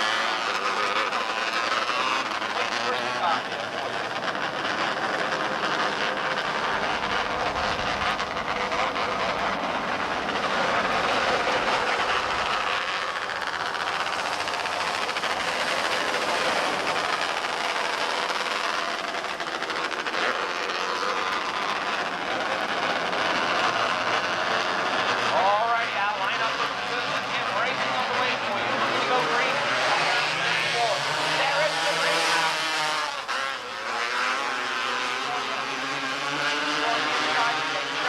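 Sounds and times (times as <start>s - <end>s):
race car engines droning: 0.0s - 38.0s.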